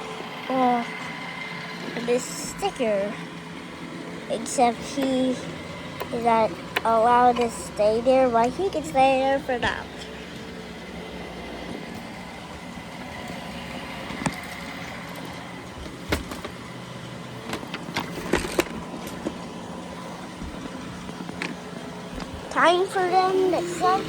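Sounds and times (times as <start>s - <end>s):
robot vacuum motor hum: 0.0s - 24.0s.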